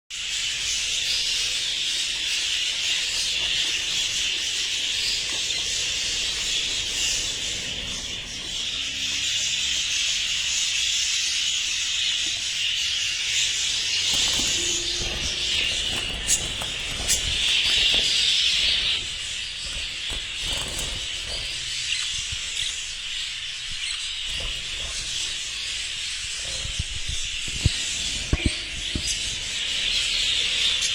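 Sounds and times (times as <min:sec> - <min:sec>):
budgerigars chattering: 0:00.2 - 0:30.9.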